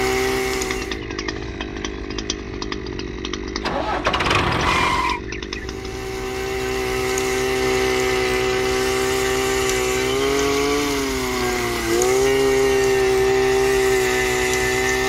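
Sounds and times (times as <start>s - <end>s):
small motor whining: 0.0s - 15.0s.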